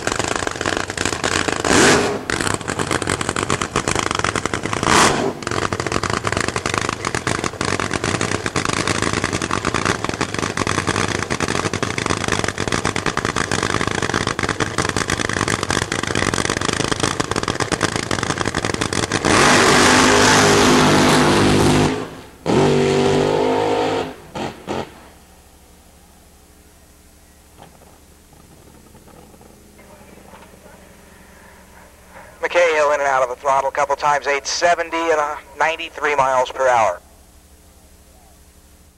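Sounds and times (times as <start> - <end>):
drag racing engine rattle and roar: 0.0 - 25.4, 27.5 - 36.6.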